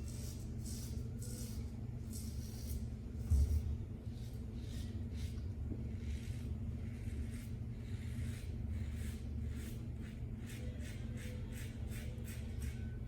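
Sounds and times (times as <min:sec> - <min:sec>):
razor scraping stubble: 0:00.0 - 0:03.5, 0:04.2 - 0:13.0
steady low hum: 0:00.0 - 0:13.0.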